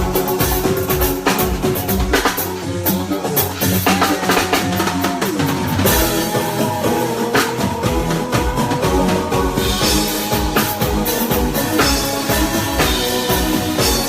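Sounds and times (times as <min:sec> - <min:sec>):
bass: 0:00.0 - 0:14.0
drum kit beat: 0:00.0 - 0:14.0.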